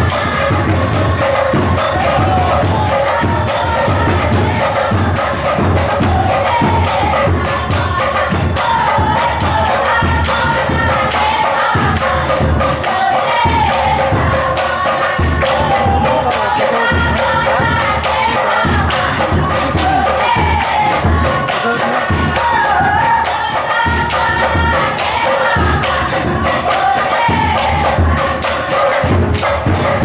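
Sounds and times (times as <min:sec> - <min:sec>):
drums beating: 0:00.0 - 0:30.0
group singing a chant: 0:00.0 - 0:30.0.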